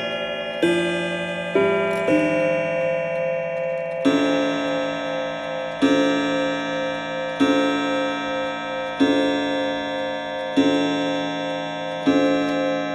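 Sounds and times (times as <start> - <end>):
clock chime striking: 0.0 - 12.9.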